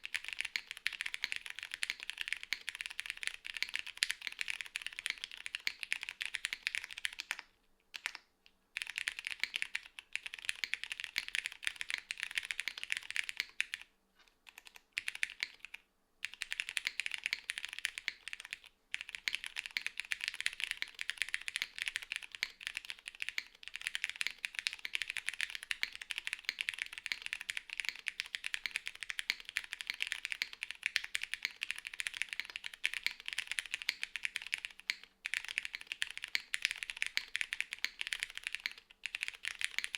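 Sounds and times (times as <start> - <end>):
mechanical keyboard typing: 0.0 - 8.2, 8.8 - 13.9, 14.5 - 39.9.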